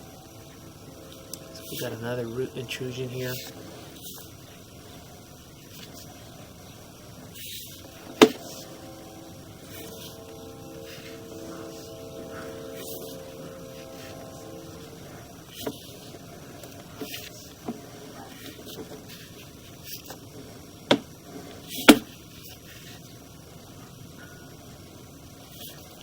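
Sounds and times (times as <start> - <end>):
steady hum with faint whine: 0.0 - 26.0.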